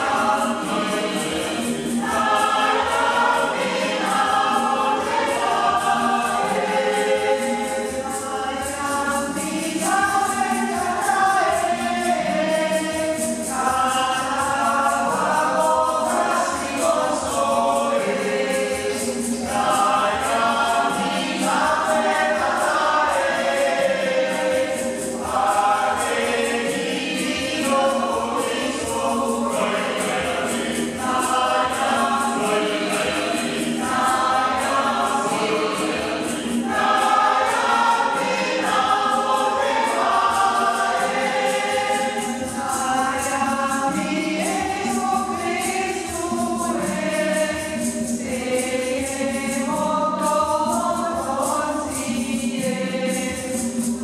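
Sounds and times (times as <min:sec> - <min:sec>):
choir singing gospel: 0:00.0 - 0:54.0
conga drums: 0:00.0 - 0:54.0.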